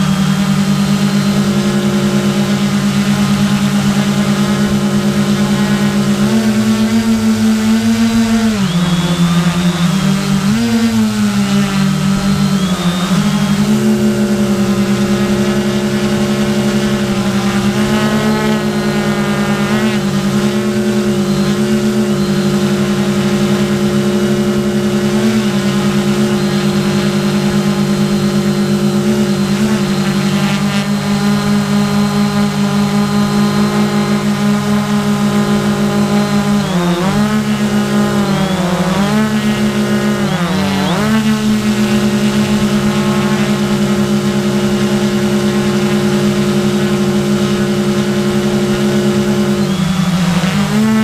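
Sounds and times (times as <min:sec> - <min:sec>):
quadcopter motors droning: 0:00.0 - 0:51.0.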